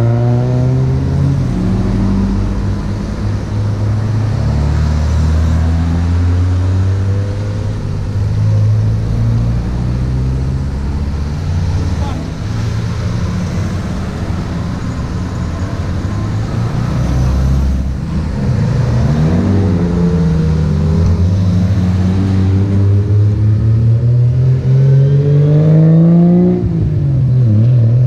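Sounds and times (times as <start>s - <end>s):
cars accelerating past: 0.0s - 28.0s.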